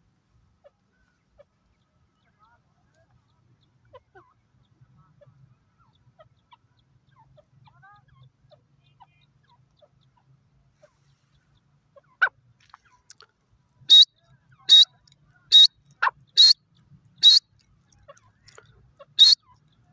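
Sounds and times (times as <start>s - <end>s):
bird calling softly: 0.6s - 19.9s.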